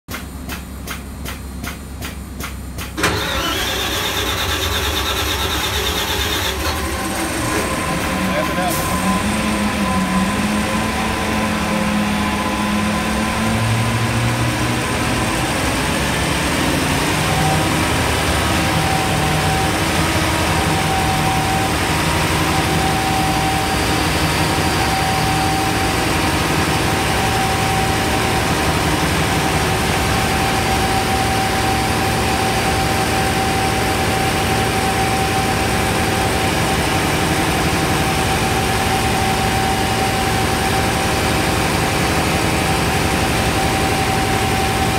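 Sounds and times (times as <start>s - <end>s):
compressor whine: 0.1s - 44.9s
gas compressor humming: 0.1s - 44.9s.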